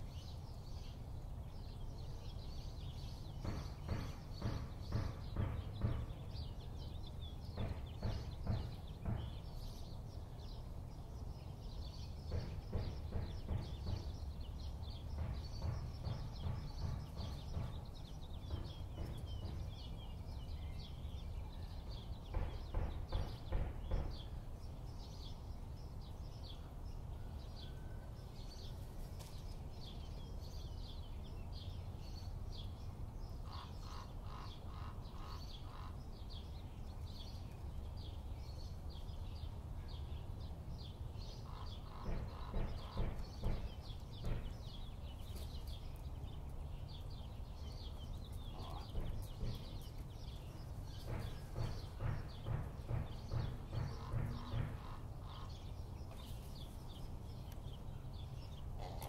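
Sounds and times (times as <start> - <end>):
low outdoor rumble: 0.0 - 59.0
small birds chirping: 0.0 - 59.0.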